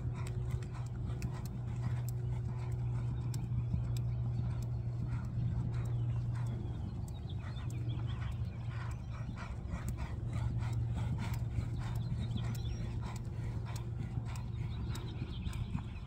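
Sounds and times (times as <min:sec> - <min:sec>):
horse hoofbeats on sand: 0:00.0 - 0:16.0
low hum: 0:00.0 - 0:16.0.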